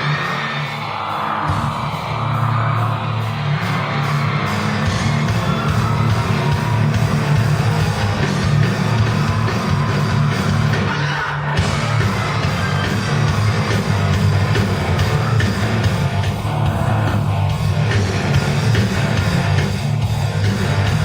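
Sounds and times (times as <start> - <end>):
distorted electric guitar: 0.0 - 21.0
live rock band playing: 0.0 - 21.0.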